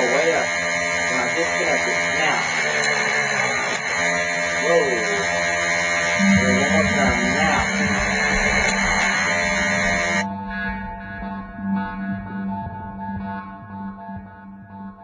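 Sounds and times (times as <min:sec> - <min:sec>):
electric motor buzzing whine: 0:00.0 - 0:12.9.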